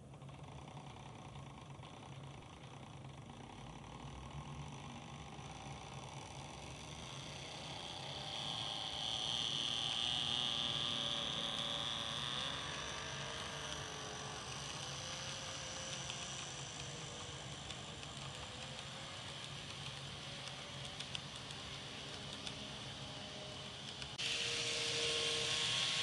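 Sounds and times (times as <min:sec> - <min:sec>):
model train running past: 0:00.0 - 0:26.0
electric motor whine: 0:04.3 - 0:26.0.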